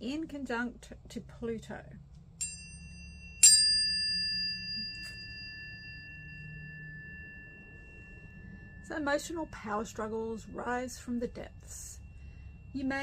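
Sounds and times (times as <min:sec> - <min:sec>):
tuning forks ringing: 0:02.4 - 0:13.0.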